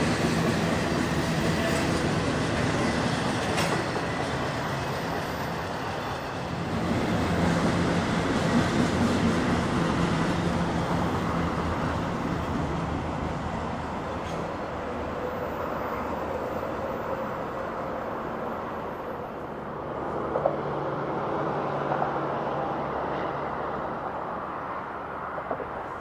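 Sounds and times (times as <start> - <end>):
freight train rumbling by: 0.0 - 26.0.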